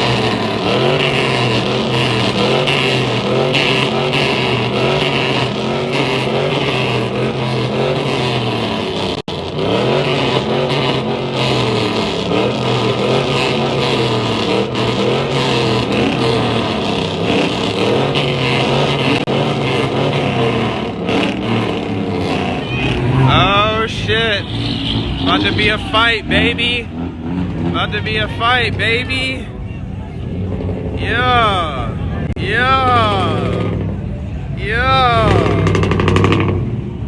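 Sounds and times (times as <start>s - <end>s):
vehicle engine revving: 0.0s - 37.0s.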